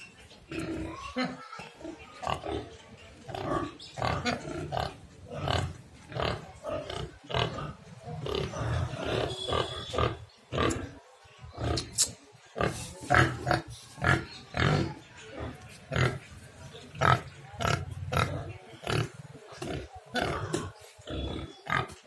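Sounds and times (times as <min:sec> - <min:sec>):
pigs grunting: 0:02.2 - 0:11.0, 0:12.6 - 0:22.0.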